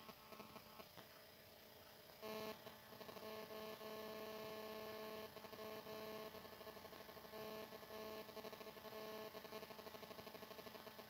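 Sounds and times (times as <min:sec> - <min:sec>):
faint multi-tone hum: 0:00.0 - 0:11.0.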